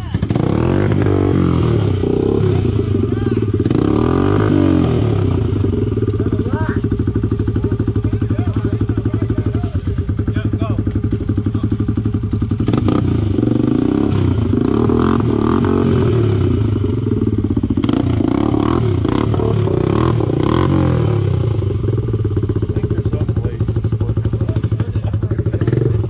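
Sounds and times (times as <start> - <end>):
quad bike engine idling and revving: 0.0 - 26.0.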